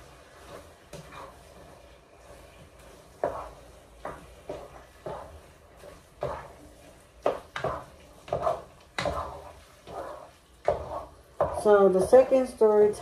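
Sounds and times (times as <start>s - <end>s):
utensil scraping and knocking pan: 0.0s - 12.5s.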